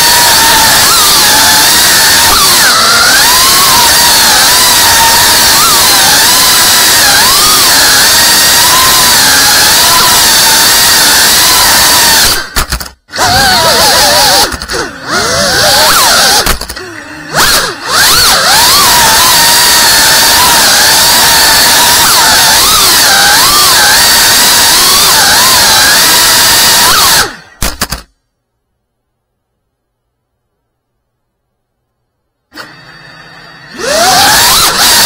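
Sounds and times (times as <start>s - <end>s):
quadcopter motors whining: 0.0s - 27.6s, 32.5s - 35.0s.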